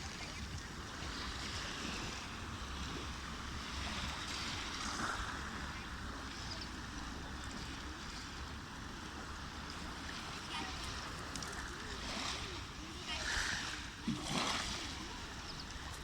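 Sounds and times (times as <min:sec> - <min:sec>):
sea water rushing and splashing: 0:00.0 - 0:16.0.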